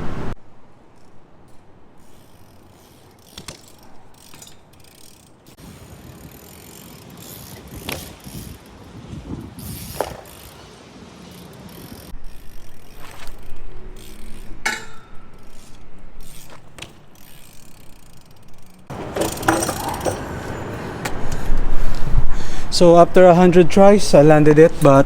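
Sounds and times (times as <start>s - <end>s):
bike hub ticking: 0.8s - 22.4s
bike knocking: 1.0s - 13.5s, 14.1s - 22.2s.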